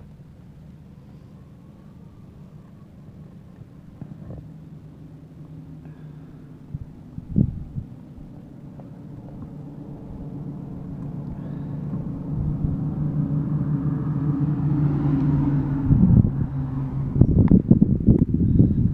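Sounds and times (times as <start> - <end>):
vehicle engine droning: 0.0 - 18.9.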